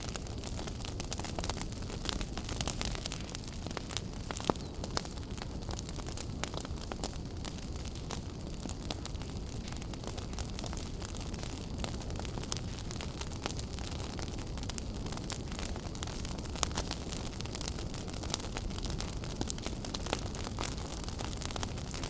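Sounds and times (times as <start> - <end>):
low rumble of fire: 0.0 - 22.0
wood fire crackling and popping: 0.0 - 22.0.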